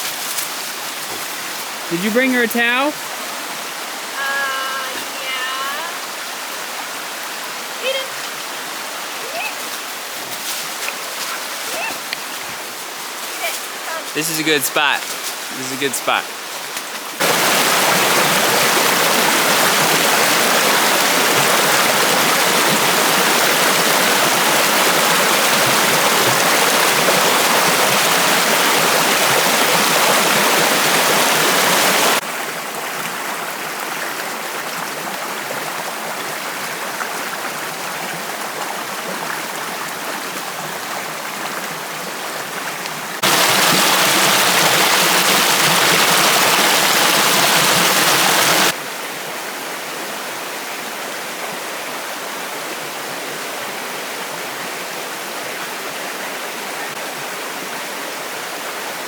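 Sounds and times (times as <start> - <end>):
river water over rocks: 0.0 - 14.9, 15.5 - 59.0.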